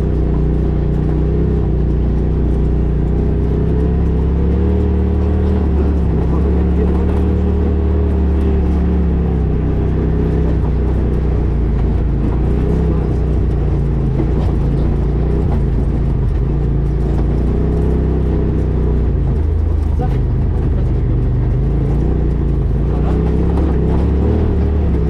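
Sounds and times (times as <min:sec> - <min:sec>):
rally car engine under load: 0:00.0 - 0:25.0.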